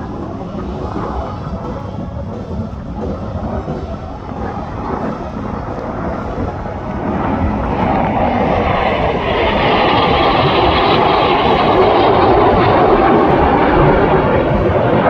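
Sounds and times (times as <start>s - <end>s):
jet aircraft flying over: 0.0s - 15.0s.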